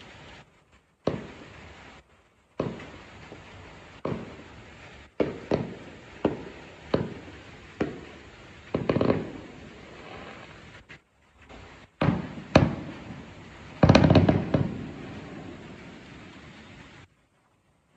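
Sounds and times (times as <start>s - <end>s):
firework shells bursting: 0.0s - 17.1s.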